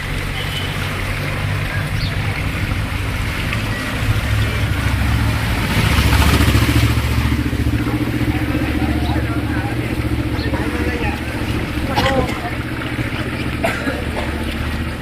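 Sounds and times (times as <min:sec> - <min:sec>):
street noise hiss: 0:00.0 - 0:15.0
vehicle engine running: 0:00.0 - 0:15.0.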